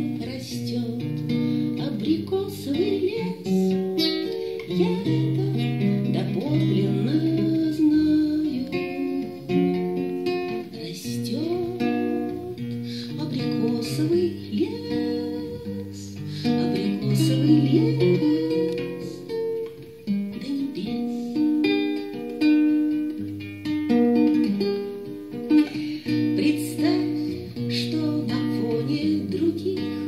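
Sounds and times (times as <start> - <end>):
classical guitar plucked solo: 0.0 - 30.0.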